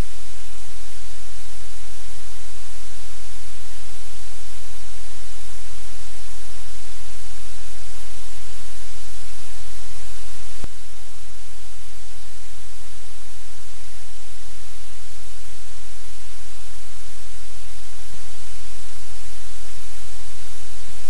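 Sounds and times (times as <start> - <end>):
low electrical hum: 0.0 - 21.0
static hiss: 0.0 - 21.0.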